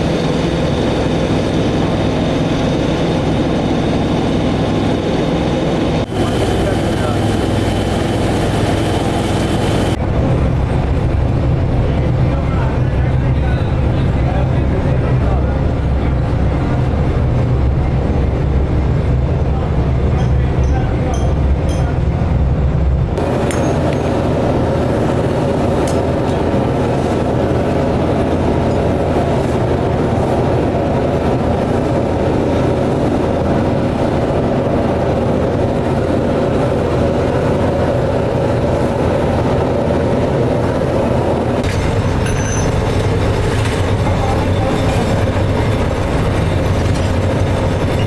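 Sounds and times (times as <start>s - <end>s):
heavy factory machinery clattering: 0.0s - 48.0s.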